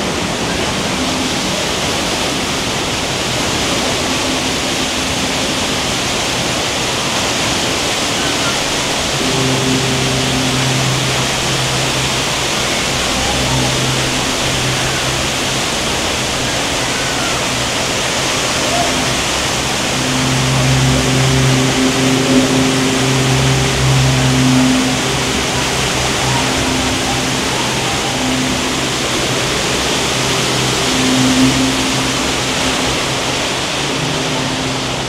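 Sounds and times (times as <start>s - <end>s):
rush of falling water: 0.0s - 35.0s.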